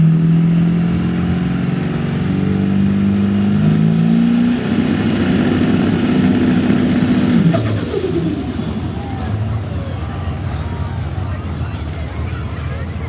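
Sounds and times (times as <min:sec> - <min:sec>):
diesel truck engine under load: 0:00.0 - 0:13.0.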